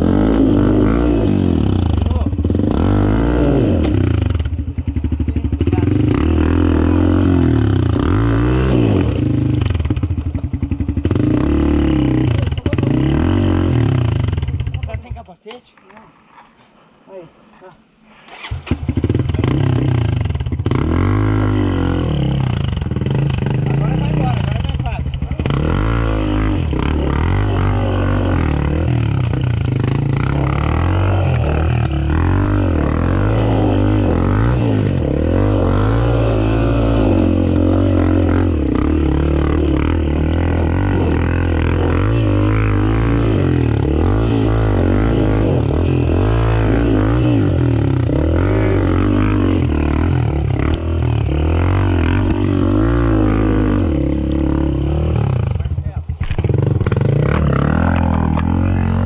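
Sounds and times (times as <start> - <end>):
dirt bike engine revving: 0.0 - 14.9, 18.2 - 59.0.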